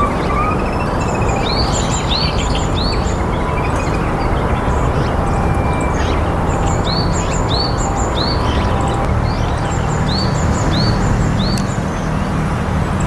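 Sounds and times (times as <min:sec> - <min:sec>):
bird whistled call: 0:00.0 - 0:11.8
steady rushing noise: 0:00.0 - 0:13.0.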